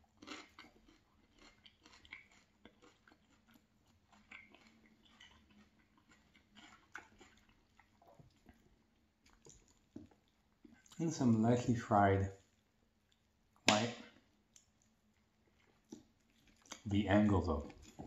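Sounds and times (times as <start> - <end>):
chewing crunchy salad: 0.0 - 11.0, 12.4 - 13.4, 14.0 - 18.0.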